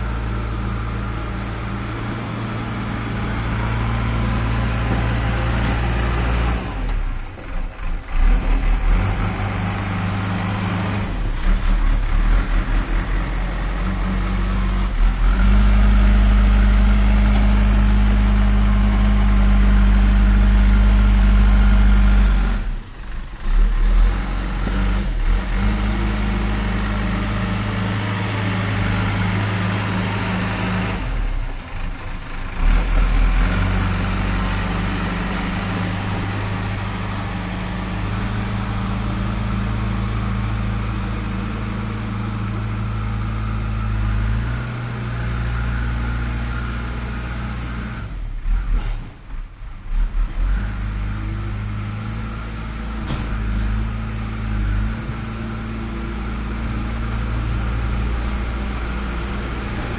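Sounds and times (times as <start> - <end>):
diesel engine of backhoe loader: 0.0 - 59.9.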